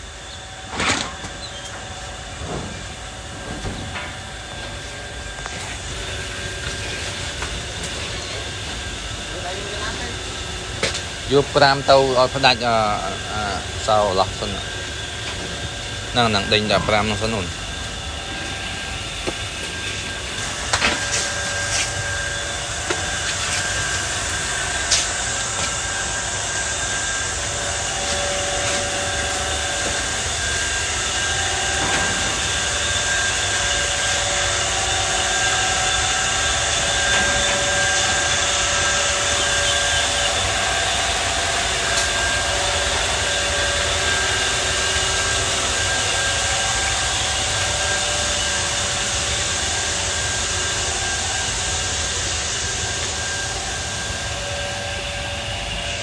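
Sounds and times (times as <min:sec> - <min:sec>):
motor running steadily: 0:00.0 - 0:56.0.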